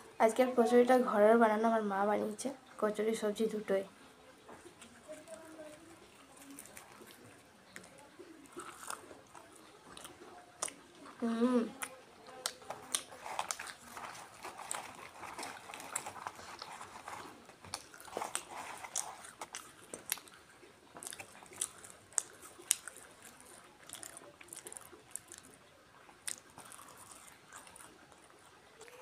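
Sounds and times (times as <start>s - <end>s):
soft wet chewing: 3.6s - 29.0s.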